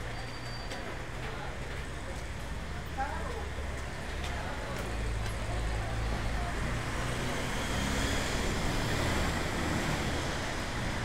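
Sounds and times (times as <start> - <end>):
traffic drone of passing vehicles: 0.0 - 11.0.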